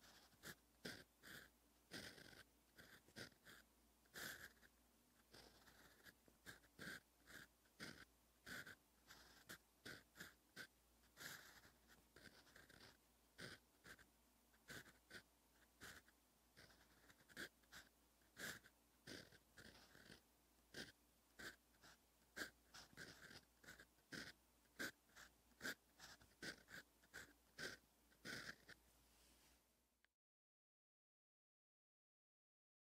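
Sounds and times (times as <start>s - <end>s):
pen nib scratching on paper: 0.0s - 28.8s.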